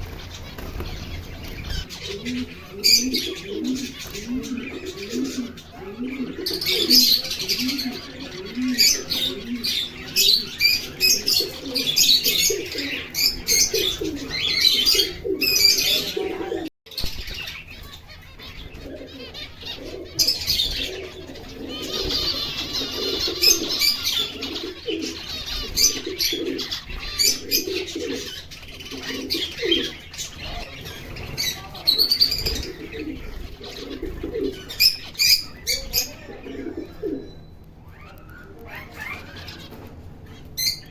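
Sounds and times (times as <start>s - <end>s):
finches chirping: 0.0s - 40.9s
bird cooing: 1.6s - 16.7s, 18.6s - 30.8s, 31.5s - 37.4s.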